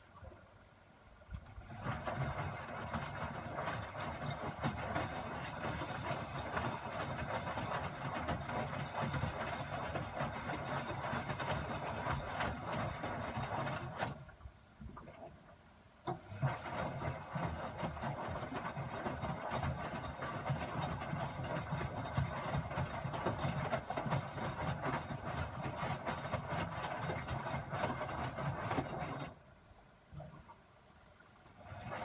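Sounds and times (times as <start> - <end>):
washing machine running: 1.6 - 14.2, 16.3 - 29.4, 31.6 - 32.0.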